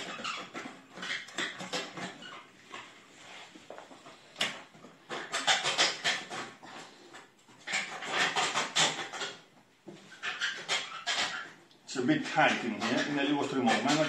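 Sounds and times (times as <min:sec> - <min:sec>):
hands rustling and scraping: 0:00.0 - 0:14.0.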